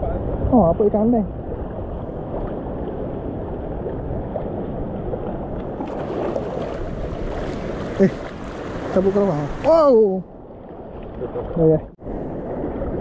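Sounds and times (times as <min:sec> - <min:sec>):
water rushing: 0:00.0 - 0:13.0
wind buffeting microphone: 0:00.0 - 0:13.0.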